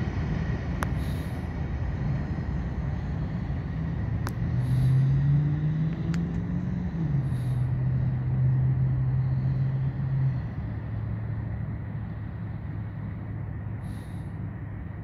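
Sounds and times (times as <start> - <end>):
freight train cars rumbling past: 0.0 - 15.0.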